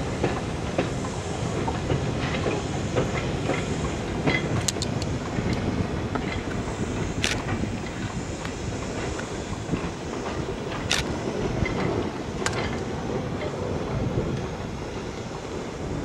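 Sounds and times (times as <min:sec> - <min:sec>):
steam locomotive rumbling past: 0:00.0 - 0:16.0.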